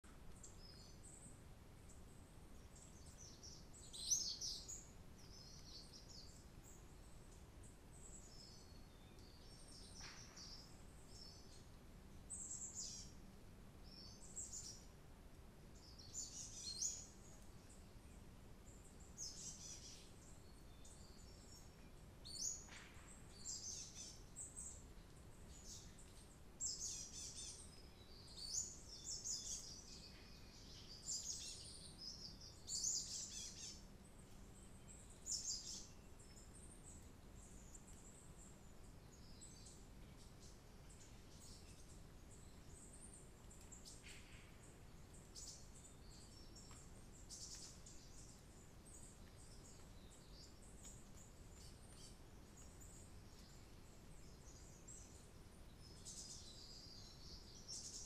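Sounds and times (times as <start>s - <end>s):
faint low background hum: 0.0s - 58.0s
small songbirds chirping: 0.0s - 58.0s.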